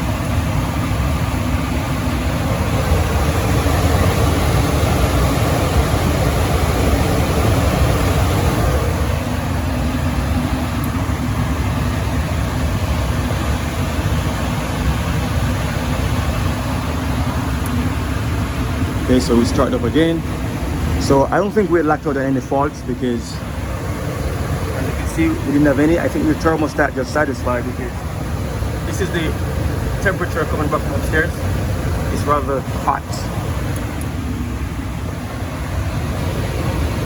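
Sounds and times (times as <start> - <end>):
furnace fans humming: 0.0 - 37.0.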